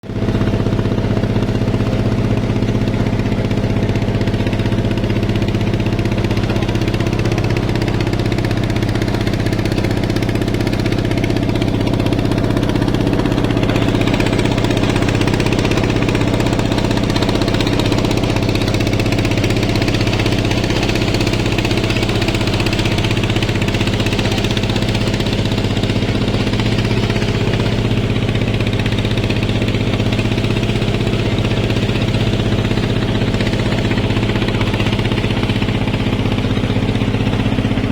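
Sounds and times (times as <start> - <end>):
boat engine running: 0.0 - 37.9.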